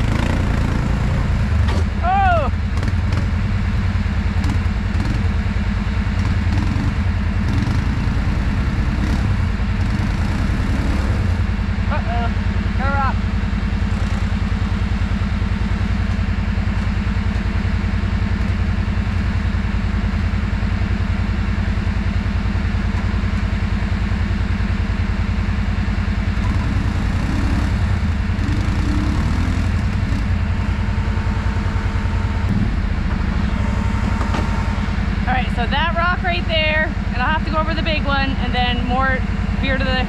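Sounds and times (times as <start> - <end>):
atv engine running steadily: 0.0 - 40.0.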